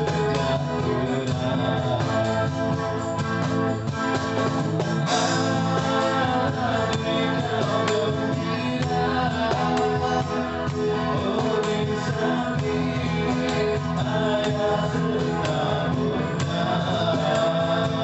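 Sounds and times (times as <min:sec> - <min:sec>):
band playing: 0:00.0 - 0:18.0
guitar chords: 0:00.0 - 0:18.0
percussion beat: 0:00.0 - 0:18.0.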